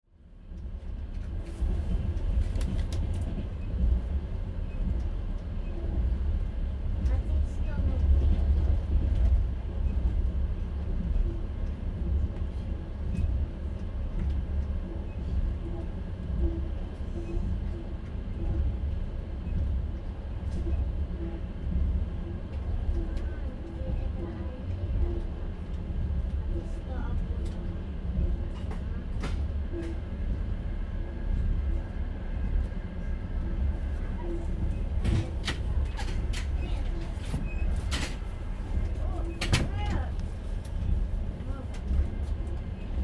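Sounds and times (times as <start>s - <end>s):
train wheels rumbling on rails: 0.3s - 43.0s.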